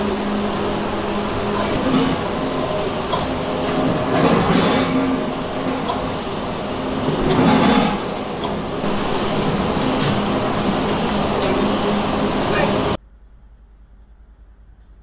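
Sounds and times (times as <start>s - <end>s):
packing machinery humming: 0.0s - 15.0s.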